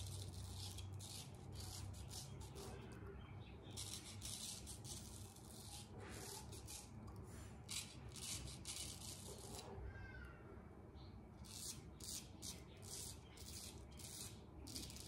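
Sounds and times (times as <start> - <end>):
straight razor scraping stubble: 0.0 - 3.0, 3.6 - 9.7, 11.4 - 15.0.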